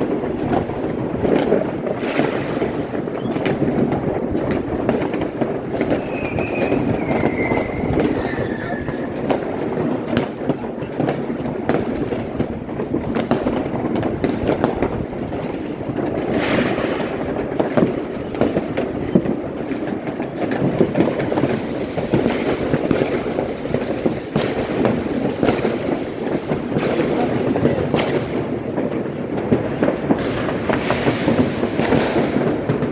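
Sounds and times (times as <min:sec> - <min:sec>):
firecrackers crackling: 0:00.0 - 0:32.9
fireworks bangs: 0:00.0 - 0:32.9.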